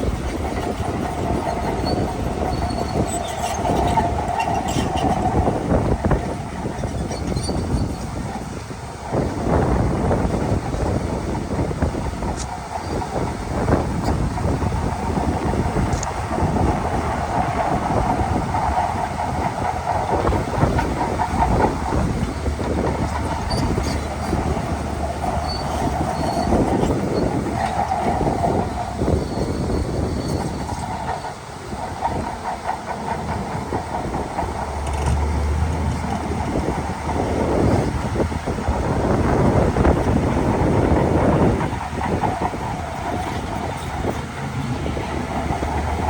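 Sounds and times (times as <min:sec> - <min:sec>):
bulldozer diesel engine under load: 0:00.0 - 0:46.0
steel tracks clattering: 0:00.0 - 0:46.0.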